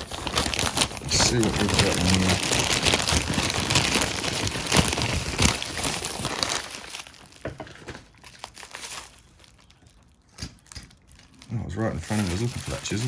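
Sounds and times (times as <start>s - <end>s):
parcel bag crinkling: 0.0s - 13.0s.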